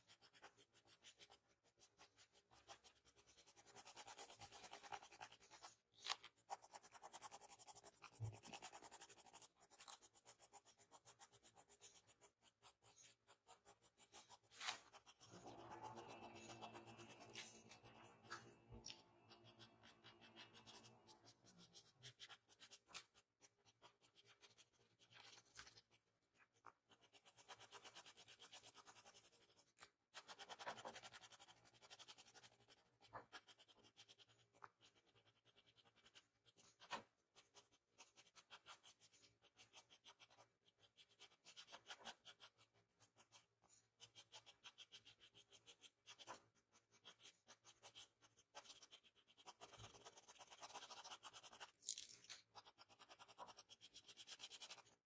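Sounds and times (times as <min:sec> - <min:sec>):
pencil scratching on paper: 0:00.0 - 0:55.0.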